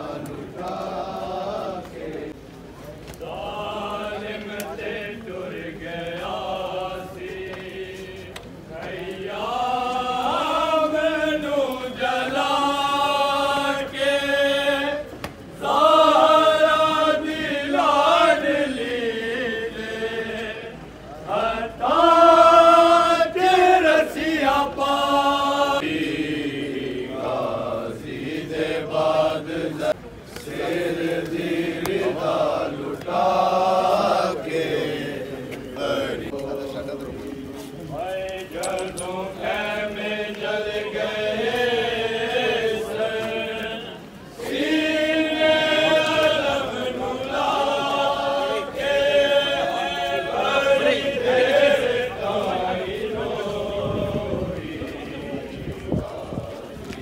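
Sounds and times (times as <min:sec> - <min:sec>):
men chanting a lament: 0:03.2 - 0:57.0.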